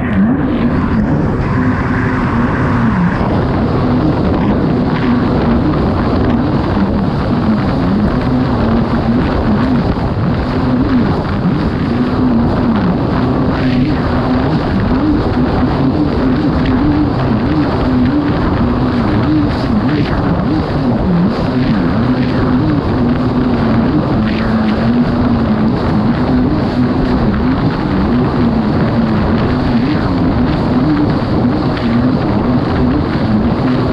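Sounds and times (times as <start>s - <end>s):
jet ski engine running hard: 0.0s - 33.9s
rush of noise: 0.0s - 33.9s.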